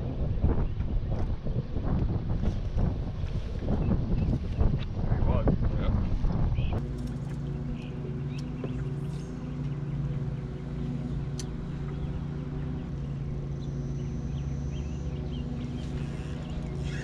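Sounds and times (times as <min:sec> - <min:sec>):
electric trolling motor humming: 0:00.1 - 0:17.0.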